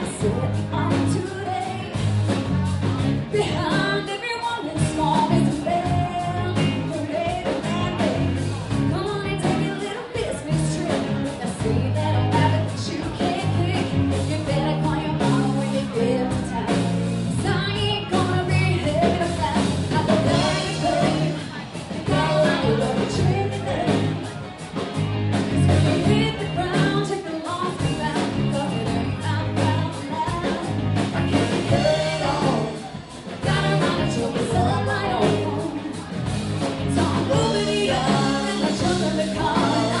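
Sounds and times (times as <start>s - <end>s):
woman singing lead: 0.0s - 24.5s, 25.3s - 40.0s
live rock band: 0.0s - 40.0s.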